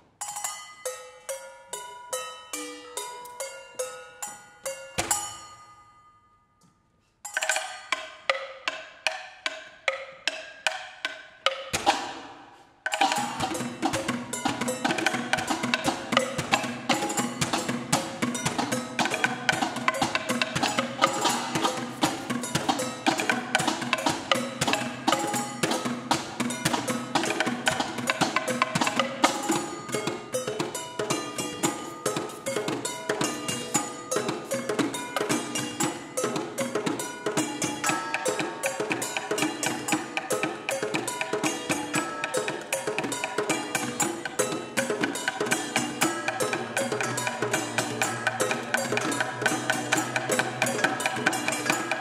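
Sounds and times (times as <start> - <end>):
pots and bowls struck in a beat: 0.2 - 6.0, 7.3 - 52.0.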